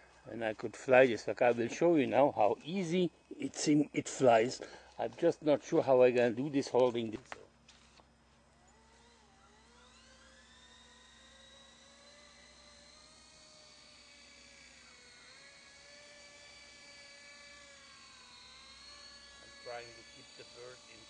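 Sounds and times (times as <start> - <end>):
toy helicopter motor whine: 0.0 - 21.0.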